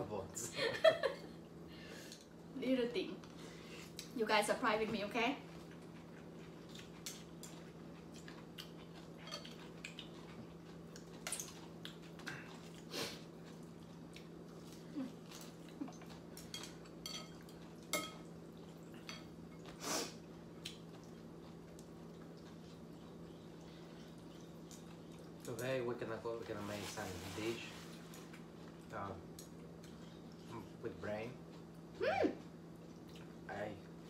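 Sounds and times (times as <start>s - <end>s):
soft eating noises: 1.2s - 34.0s.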